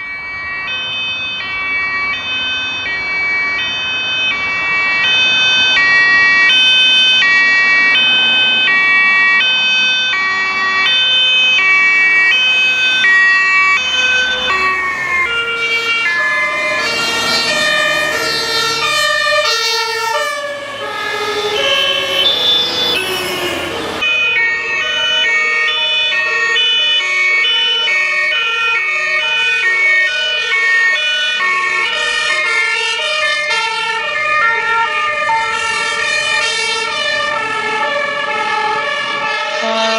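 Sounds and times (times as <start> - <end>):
fire engine two-tone siren: 0.0 - 39.9.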